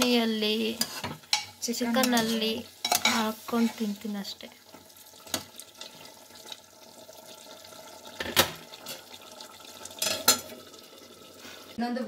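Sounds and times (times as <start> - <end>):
curry simmering: 0.1 - 11.8.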